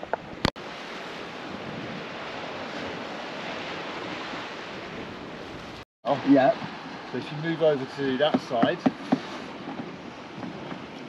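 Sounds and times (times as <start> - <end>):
sea waves washing: 0.0 - 11.0
wind on microphone: 0.0 - 11.0.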